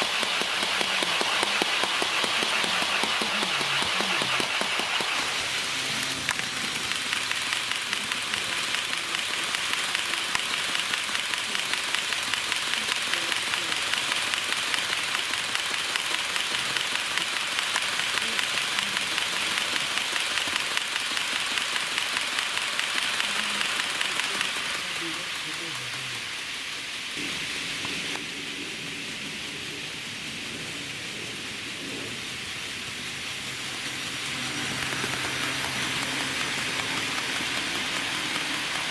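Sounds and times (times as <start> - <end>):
model train wheels clicking: 0.0 - 38.9.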